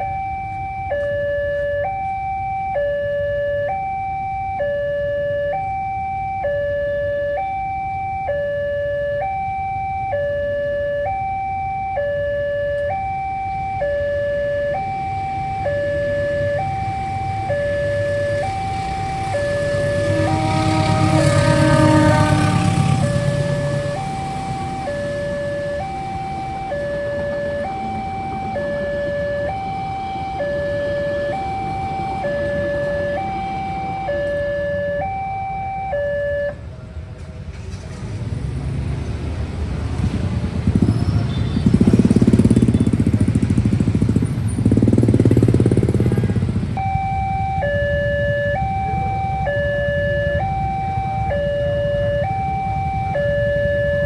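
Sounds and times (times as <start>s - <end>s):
level crossing two-tone alarm: 0.0s - 36.6s, 44.7s - 54.0s.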